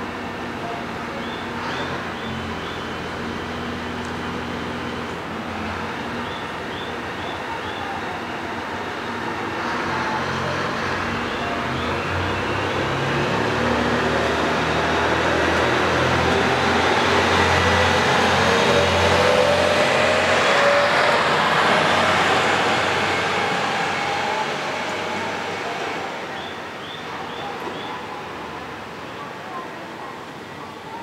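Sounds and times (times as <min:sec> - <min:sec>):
diesel railcar engine revving: 0:00.0 - 0:29.4.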